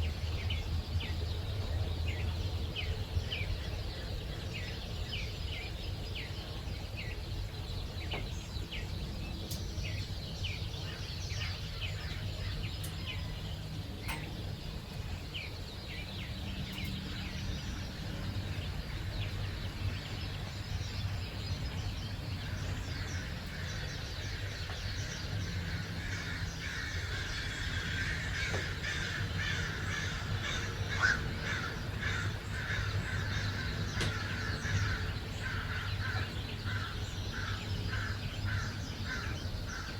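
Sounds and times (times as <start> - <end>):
birds calling and singing: 0.0 - 39.9.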